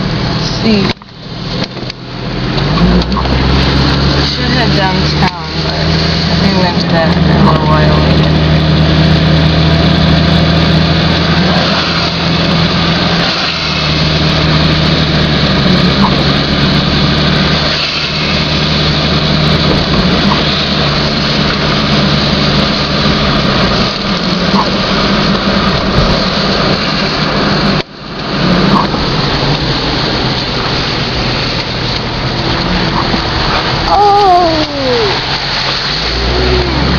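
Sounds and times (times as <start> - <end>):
low engine hum: 0.0 - 36.9
rushing noise: 0.0 - 36.9.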